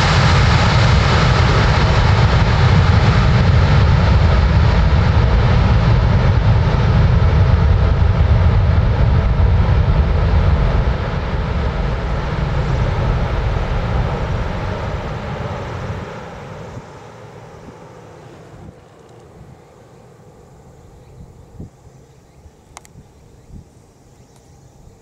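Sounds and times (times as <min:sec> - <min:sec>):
jet engines in reverse thrust: 0:00.0 - 0:25.0.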